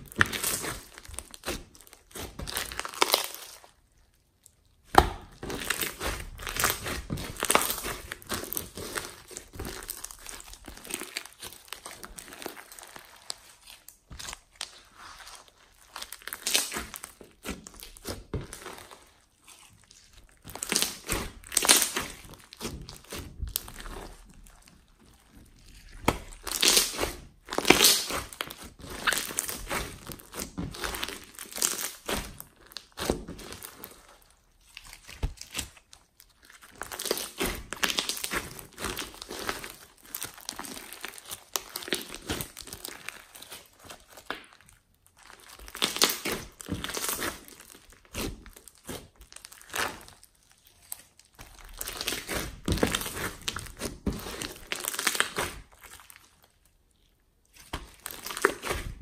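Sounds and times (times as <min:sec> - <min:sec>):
slime with foam beads crackling: 0:00.0 - 0:59.0.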